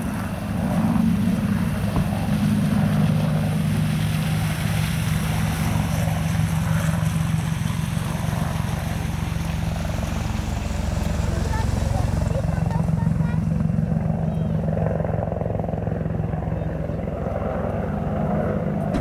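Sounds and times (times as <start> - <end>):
helicopter engine noise: 0.0 - 19.0
helicopter rotor pulsing beat: 0.0 - 19.0.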